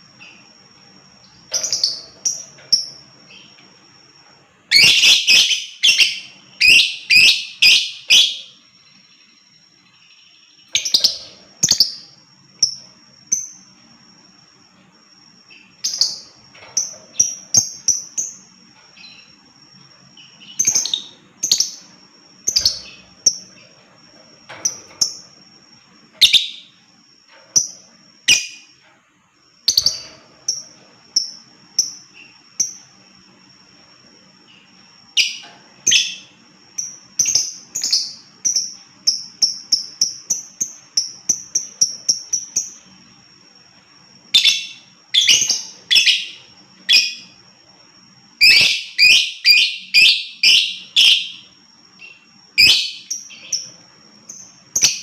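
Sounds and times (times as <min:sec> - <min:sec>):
lovebird chirping: 0:00.1 - 0:03.6, 0:04.6 - 0:13.8, 0:15.4 - 0:28.8, 0:29.6 - 0:33.0, 0:34.4 - 0:43.1, 0:44.3 - 0:47.4, 0:48.3 - 0:55.0.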